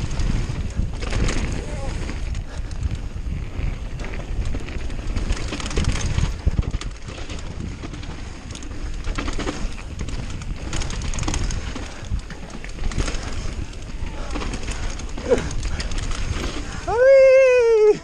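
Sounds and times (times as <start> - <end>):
bike rattling and clicking: 0.0 - 18.0
tyres rolling over dirt and stones: 0.0 - 18.0
wind buffeting microphone: 0.0 - 18.0.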